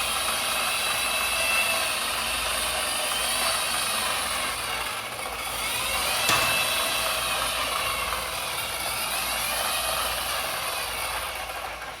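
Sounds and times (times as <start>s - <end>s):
small electric motor whining: 0.0s - 12.0s.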